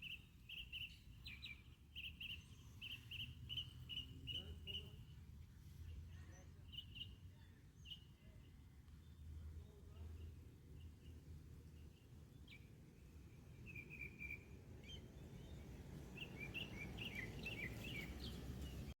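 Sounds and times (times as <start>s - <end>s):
faint bird chirps: 0.0s - 5.2s, 5.8s - 18.9s.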